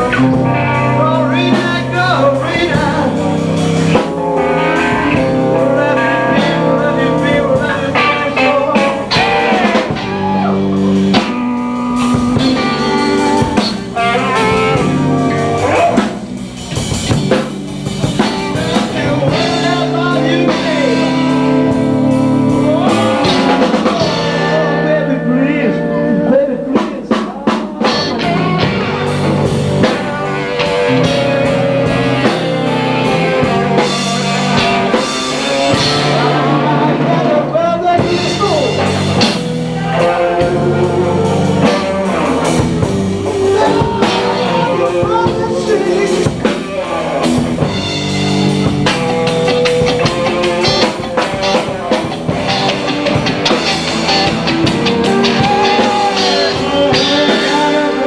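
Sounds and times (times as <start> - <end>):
blues rock band playing: 0.0 - 58.0.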